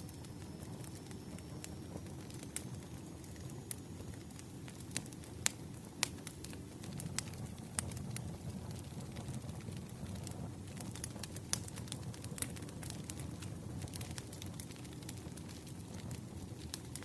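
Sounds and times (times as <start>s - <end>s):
campfire flames rumbling: 0.0s - 17.0s
fire crackling and popping: 0.0s - 17.0s.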